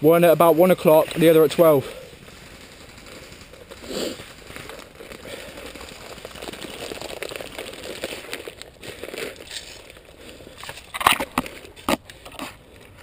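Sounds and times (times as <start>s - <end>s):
leaves and twigs rustling: 0.4s - 13.0s.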